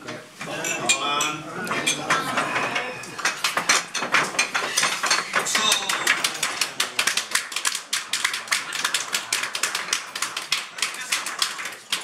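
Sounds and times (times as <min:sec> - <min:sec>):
people clapping: 0:01.7 - 0:12.0.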